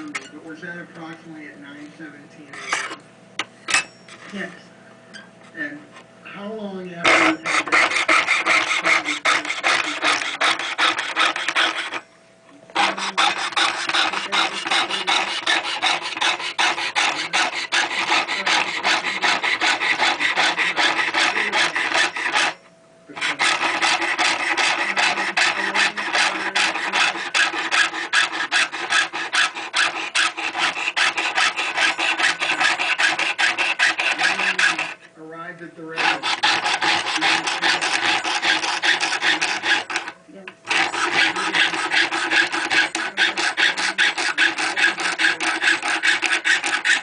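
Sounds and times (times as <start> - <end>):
hand file filing metal: 7.0 - 12.0, 12.8 - 22.6, 23.2 - 35.0, 36.0 - 47.0.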